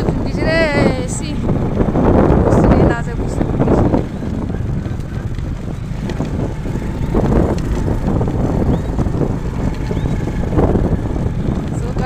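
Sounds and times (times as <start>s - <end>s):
vehicle engine rumbling: 0.0s - 12.0s
wind buffeting microphone: 0.0s - 12.0s.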